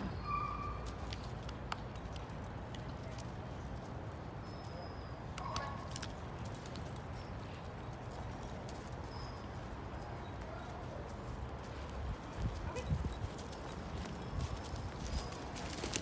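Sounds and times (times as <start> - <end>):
dog collar tags jingling: 0.8 - 16.0.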